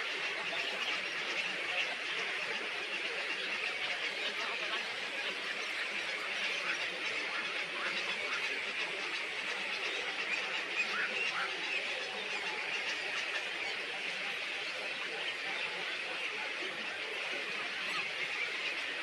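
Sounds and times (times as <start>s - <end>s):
small birds chattering: 0.0s - 19.0s.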